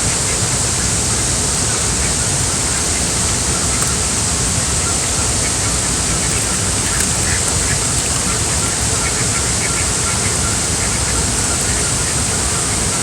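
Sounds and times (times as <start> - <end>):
ducks quacking: 0.0 - 13.0
rushing water: 0.0 - 13.0.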